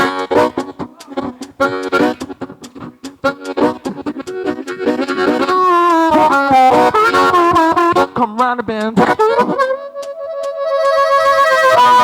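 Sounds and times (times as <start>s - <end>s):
blues harmonica chugging chords: 0.0s - 12.0s.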